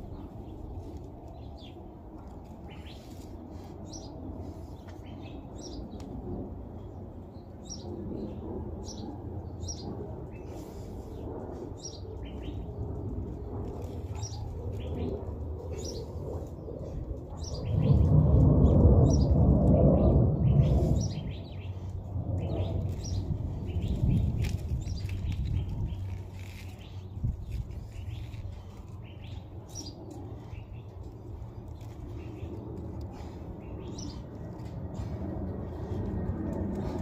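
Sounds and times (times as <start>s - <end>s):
small birds chirping: 0.0s - 19.4s, 20.0s - 37.0s
low rumble: 0.0s - 37.0s.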